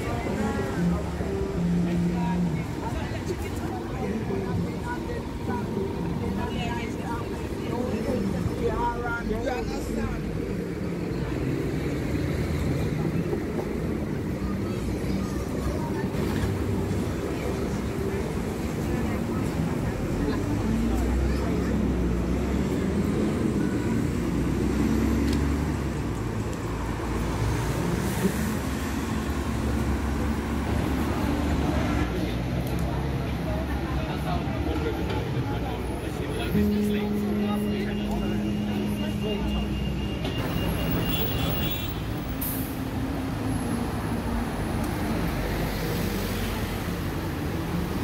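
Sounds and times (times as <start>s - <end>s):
traffic rumble: 0.0s - 48.0s.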